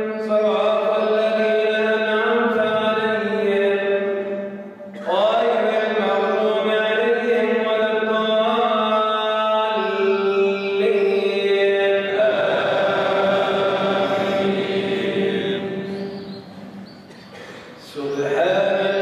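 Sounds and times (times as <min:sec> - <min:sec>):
man reciting melodically over microphone: 0:00.0 - 0:16.5, 0:17.2 - 0:19.0.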